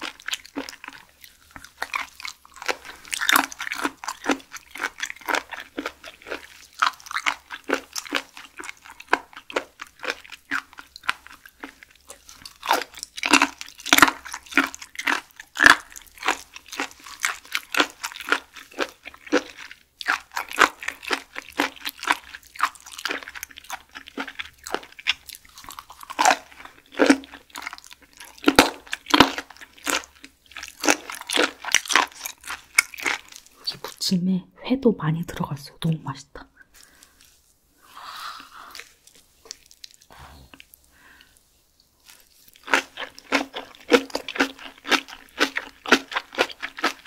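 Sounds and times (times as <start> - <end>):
chewing with wet crunches: 0.0 - 34.0, 38.7 - 40.7, 42.0 - 47.0.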